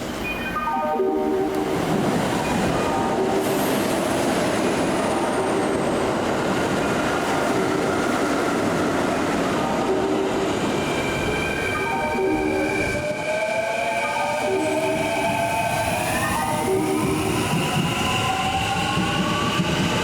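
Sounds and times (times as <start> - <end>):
train wheels rumbling on rails: 1.4 - 20.0.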